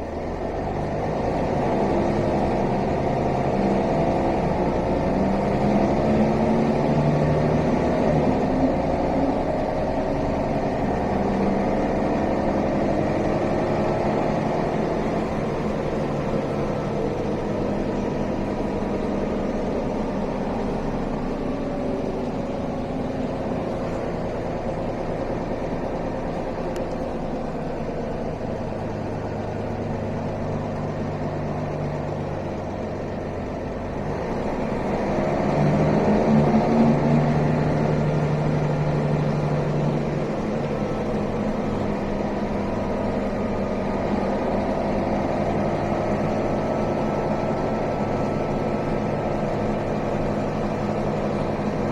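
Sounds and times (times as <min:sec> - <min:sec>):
bus diesel engine: 0:00.0 - 0:51.9.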